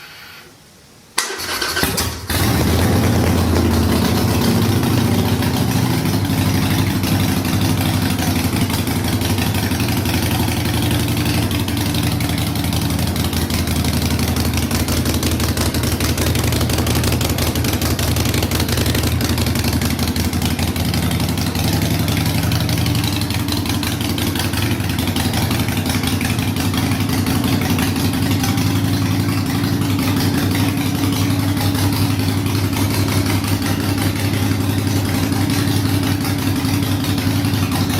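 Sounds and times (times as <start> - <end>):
motorcycle engine idling: 1.4 - 37.9.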